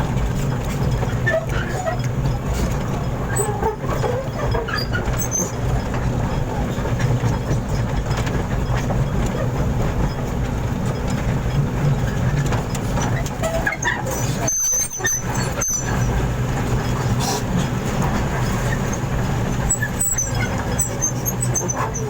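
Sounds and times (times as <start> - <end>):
truck engine droning: 0.0 - 22.0.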